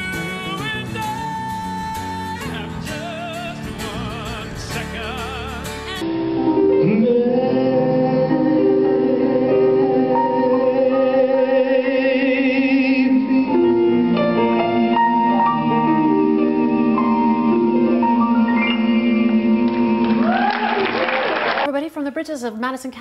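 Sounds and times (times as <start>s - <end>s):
instrumental accompaniment: 0.0s - 20.3s
man singing with vibrato: 0.0s - 20.3s
piano: 0.0s - 21.2s.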